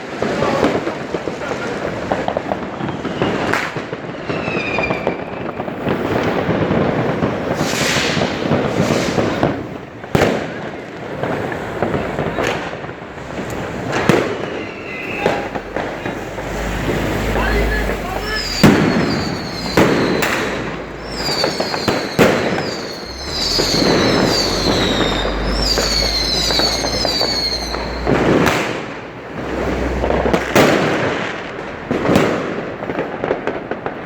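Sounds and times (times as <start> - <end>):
fireworks crackling and banging: 0.0 - 34.0
firework falling whistle: 2.2 - 9.6, 10.2 - 30.9.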